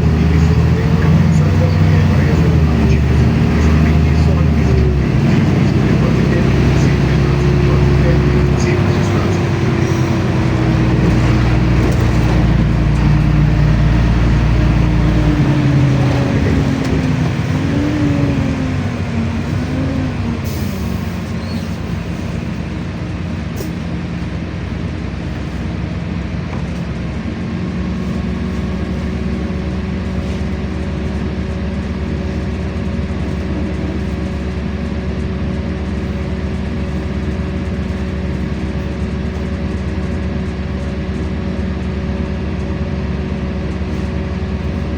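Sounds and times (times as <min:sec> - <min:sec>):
bus engine idling: 0:00.0 - 0:44.9.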